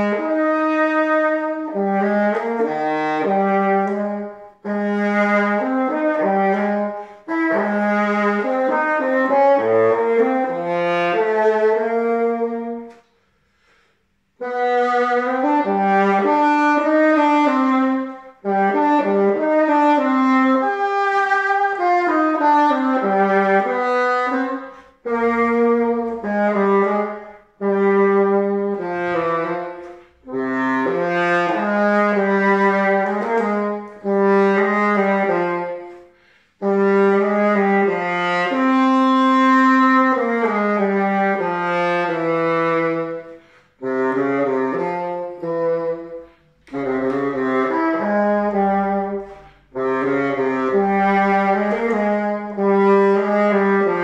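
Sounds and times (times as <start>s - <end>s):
bassoon solo: 0.0s - 54.0s.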